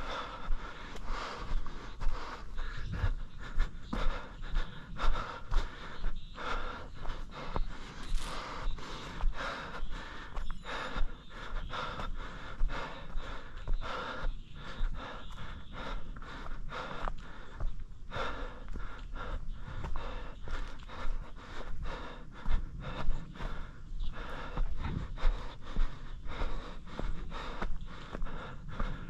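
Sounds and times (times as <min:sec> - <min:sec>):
light footfalls on trail: 0:00.0 - 0:29.0
runner panting heavily: 0:00.0 - 0:29.0.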